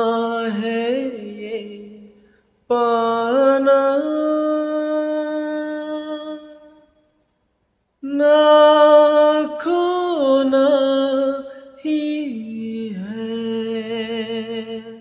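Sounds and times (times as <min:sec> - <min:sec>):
person singing wordlessly: 0:00.0 - 0:02.1, 0:02.7 - 0:06.8, 0:08.0 - 0:15.0.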